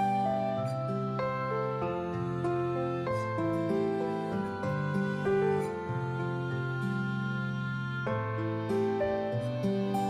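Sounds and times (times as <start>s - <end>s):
background music of held chords: 0.0s - 10.0s.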